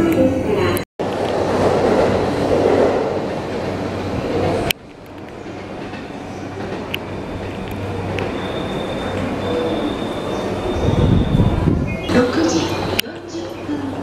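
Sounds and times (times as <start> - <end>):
train wheels and motors rumbling: 1.0 - 14.0.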